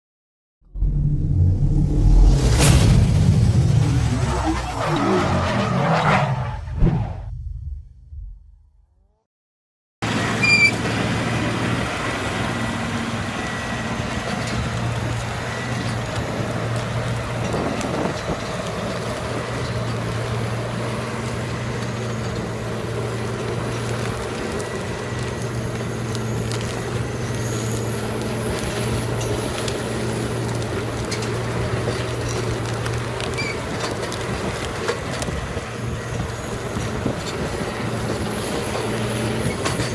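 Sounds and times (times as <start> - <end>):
heavy machine engine running: 0.7 - 5.7, 10.0 - 39.9.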